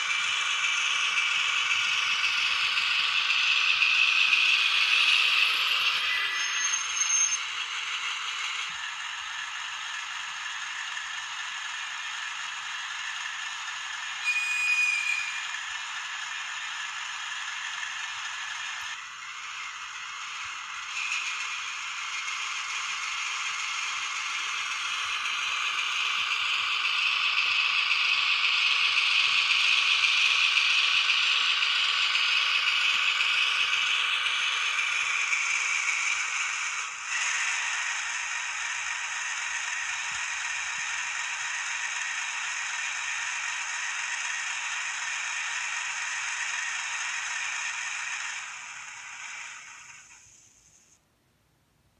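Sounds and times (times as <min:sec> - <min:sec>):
model train diesel sound from speaker: 0:00.0 - 0:51.1.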